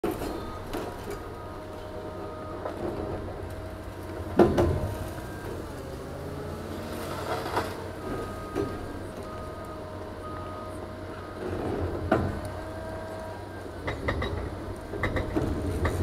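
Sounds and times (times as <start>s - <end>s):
excavator running: 0.0s - 16.0s.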